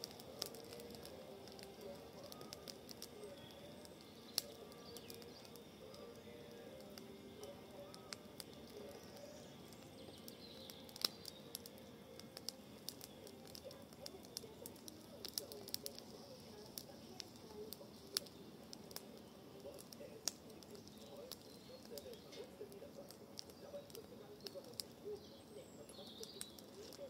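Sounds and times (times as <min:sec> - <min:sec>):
brush fire crackling and popping: 0:00.0 - 0:27.0
faint birds calling: 0:00.0 - 0:27.0.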